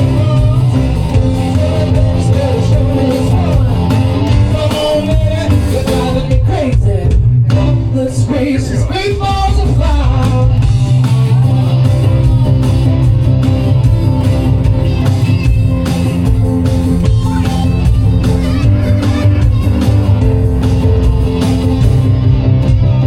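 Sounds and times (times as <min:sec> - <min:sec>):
person singing: 0:00.0 - 0:15.2, 0:17.0 - 0:20.8
rock and roll band playing: 0:00.0 - 0:23.0.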